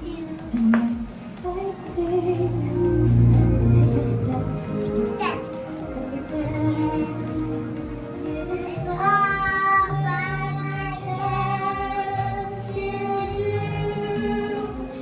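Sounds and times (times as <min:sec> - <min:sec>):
high voice singing long note: 0:00.0 - 0:15.0
bass line: 0:02.0 - 0:15.0.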